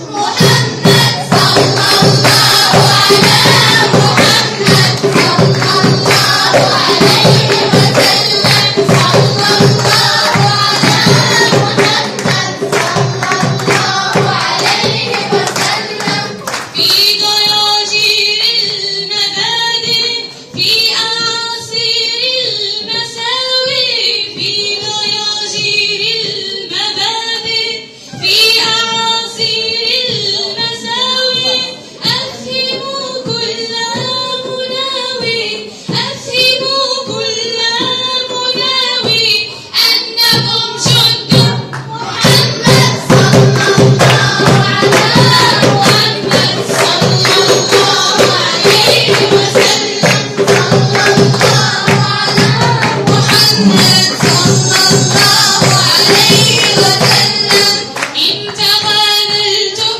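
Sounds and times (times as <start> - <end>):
fast hand percussion: 0.0 - 22.0, 30.0 - 59.9
music: 0.0 - 59.9.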